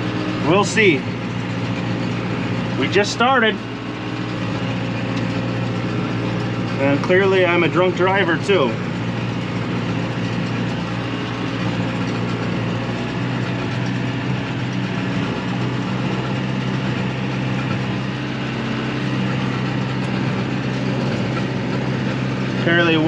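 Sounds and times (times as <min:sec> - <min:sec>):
baler mechanical clatter: 0:00.0 - 0:23.0
tractor engine running: 0:00.0 - 0:23.0.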